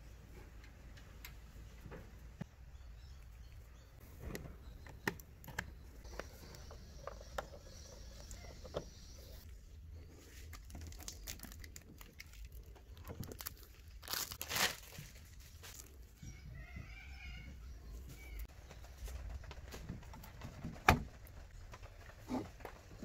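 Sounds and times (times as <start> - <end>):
crinkling: 3.0 - 23.0.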